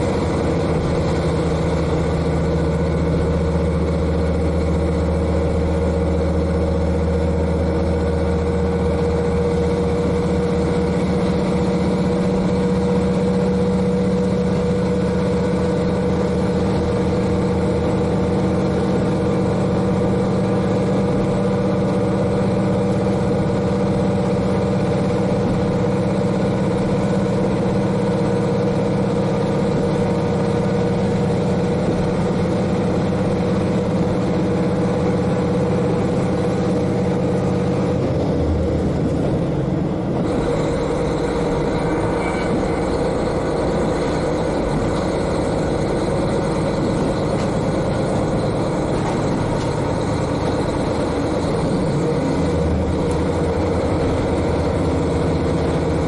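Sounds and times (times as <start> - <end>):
diesel railcar engine running: 0.0 - 56.0
train wheel and running noise: 0.0 - 56.0.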